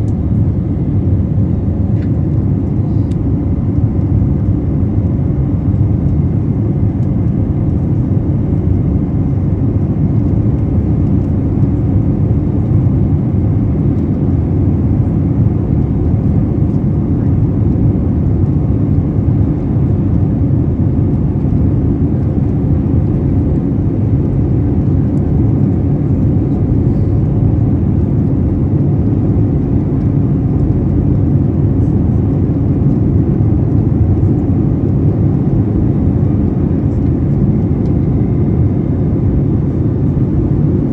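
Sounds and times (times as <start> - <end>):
deep rumble of jet engines: 0.0 - 40.9
faint steady whine: 0.0 - 40.9.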